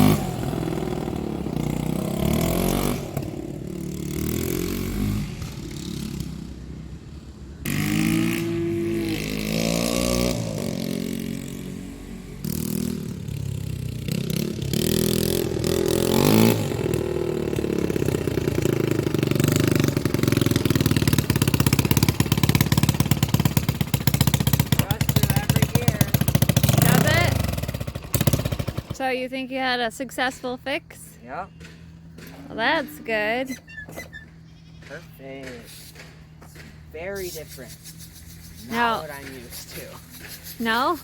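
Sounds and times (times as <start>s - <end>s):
atv engine revving: 0.0s - 30.3s, 31.2s - 41.0s.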